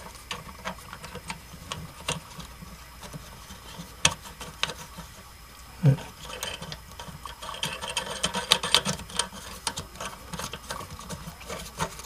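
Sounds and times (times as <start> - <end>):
nut clicking and scraping on screw: 0.0 - 5.0, 6.1 - 12.0.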